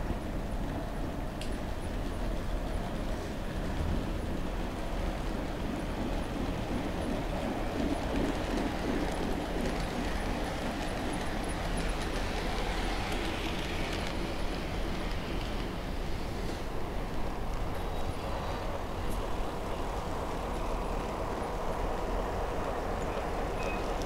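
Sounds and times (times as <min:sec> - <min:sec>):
model train wheels rumbling: 0:01.4 - 0:24.0.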